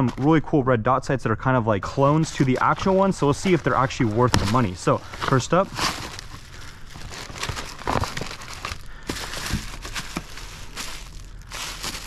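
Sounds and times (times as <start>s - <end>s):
envelope tearing: 2.2s - 12.0s
plastic package crinkling: 2.2s - 12.0s.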